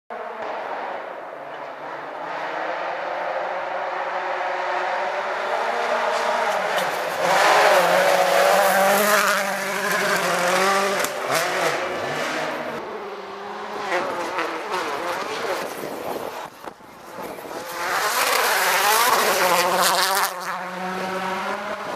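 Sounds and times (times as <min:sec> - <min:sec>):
rally car engine revving: 0:00.1 - 0:21.9.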